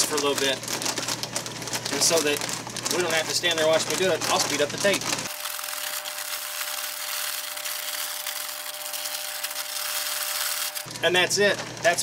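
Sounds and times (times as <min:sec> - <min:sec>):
plastic bag rustling: 0:00.0 - 0:08.4, 0:09.0 - 0:12.0.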